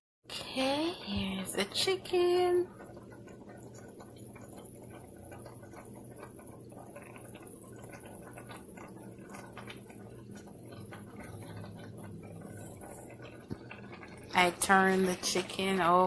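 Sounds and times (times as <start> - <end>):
sauce bubbling and popping: 0.8 - 16.0.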